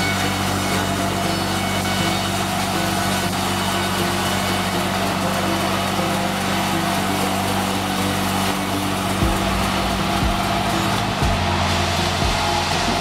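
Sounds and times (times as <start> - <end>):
engine drone: 0.0 - 13.0
saw cutting log: 0.0 - 13.0.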